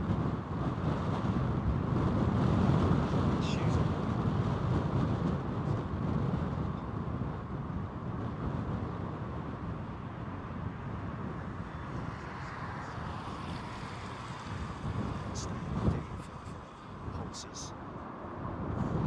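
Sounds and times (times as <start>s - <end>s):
distant jet aircraft: 0.0s - 19.0s
wind buffeting microphone: 0.0s - 19.0s.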